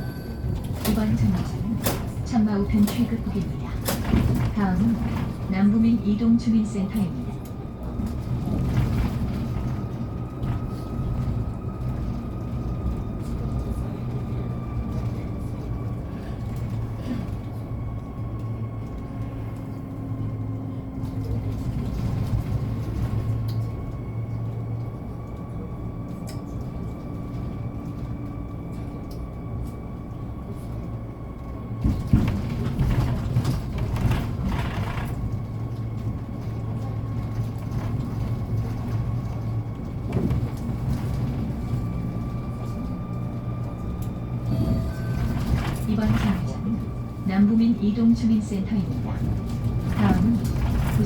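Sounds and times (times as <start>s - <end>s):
low rumble of bus and road: 0.0s - 51.0s.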